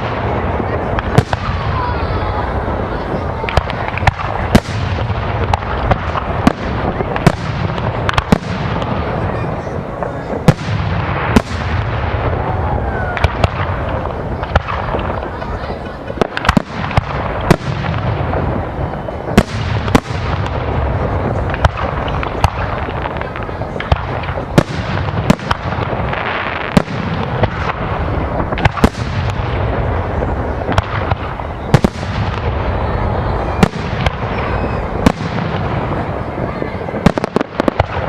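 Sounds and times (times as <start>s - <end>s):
fireworks bangs: 0.0s - 38.0s
rumble of fireworks bursts: 0.0s - 38.0s.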